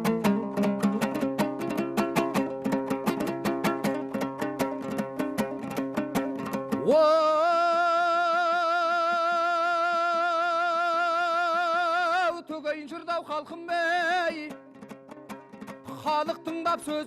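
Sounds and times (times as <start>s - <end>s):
dombra strumming: 0.0s - 17.0s.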